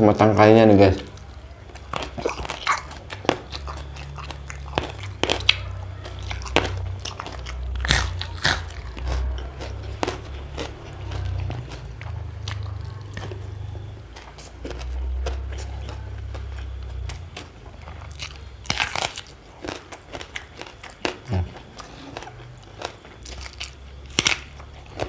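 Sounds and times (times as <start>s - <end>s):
wet chewing: 1.0s - 25.0s
crisp vegetable crunches: 1.1s - 25.0s.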